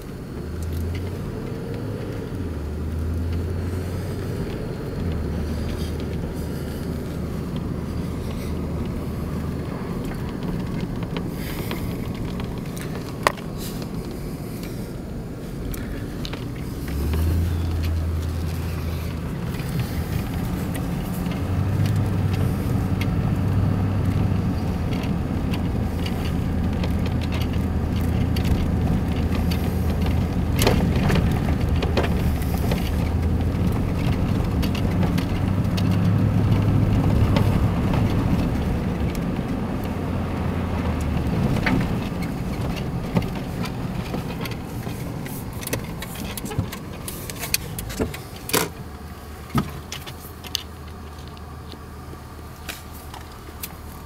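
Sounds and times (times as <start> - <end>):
engine and road drone: 0.0 - 54.0
small clicks and knocks: 0.5 - 14.8, 15.7 - 54.0.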